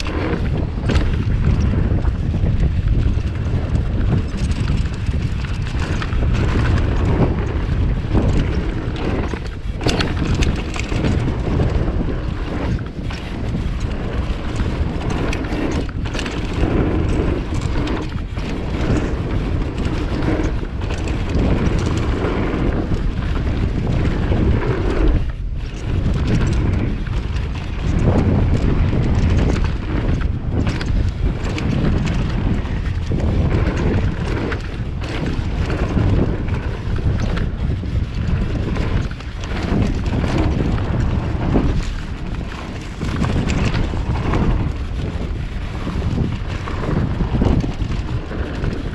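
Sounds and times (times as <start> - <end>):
bike rattling: 0.0 - 48.9
wind rushing over microphone: 0.0 - 48.9.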